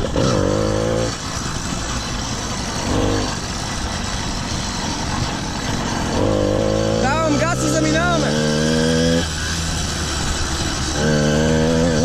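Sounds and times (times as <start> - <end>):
two-stroke engine revving: 0.0 - 12.0.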